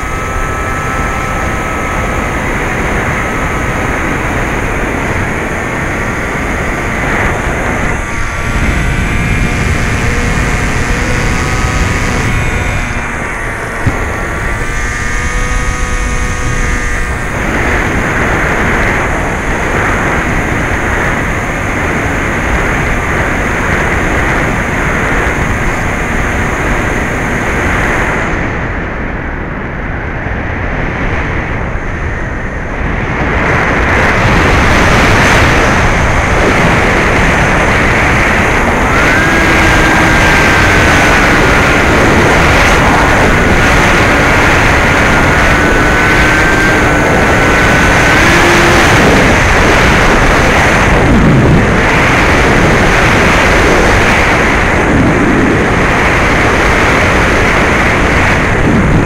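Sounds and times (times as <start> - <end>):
electric motor and propeller whine: 0.0 - 59.0
rushing airflow over camera: 0.0 - 59.0.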